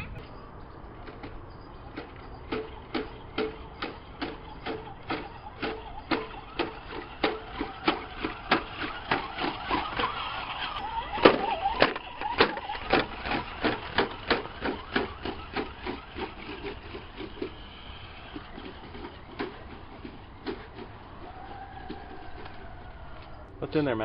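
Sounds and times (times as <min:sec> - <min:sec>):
wavering whine: 0:00.0 - 0:24.0.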